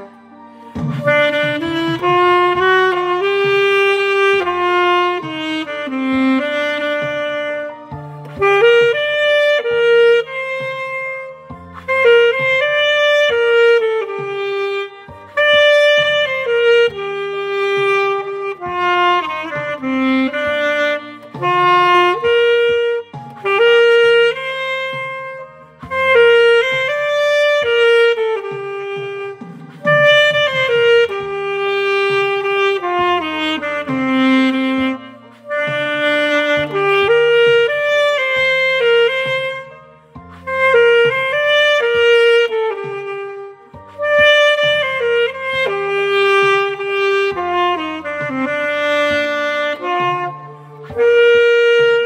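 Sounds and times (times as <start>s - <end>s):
backing track: 0.0s - 52.0s
solo wind instrument melody: 0.0s - 52.0s.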